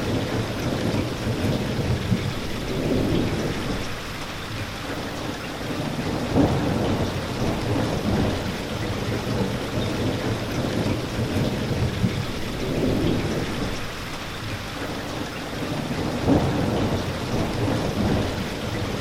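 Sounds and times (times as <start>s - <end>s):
rolling thunder rumble: 0.0s - 4.2s, 5.8s - 14.2s, 15.7s - 19.0s
steady rain falling: 0.0s - 19.0s.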